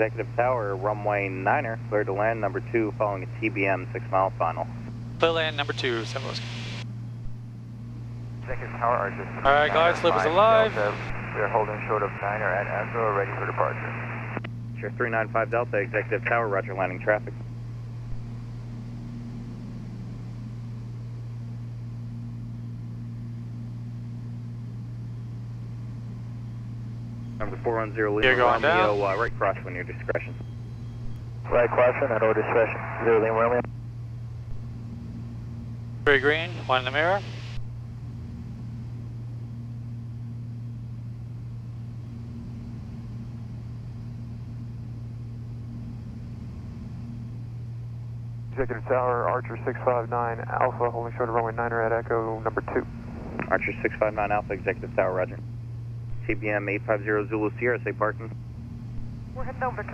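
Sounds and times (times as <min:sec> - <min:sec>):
twin propeller engines droning: 0:00.0 - 0:59.9.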